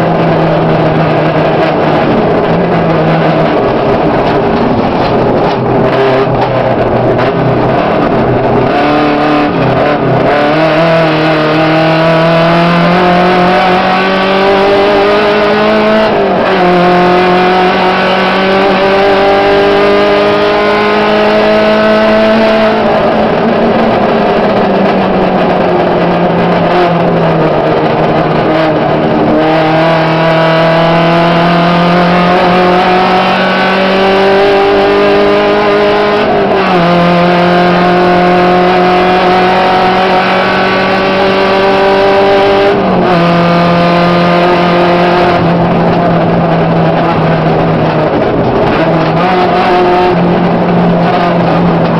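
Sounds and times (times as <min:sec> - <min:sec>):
car engine revving hard: 0:00.0 - 0:51.9
gravel and road noise: 0:00.0 - 0:51.9.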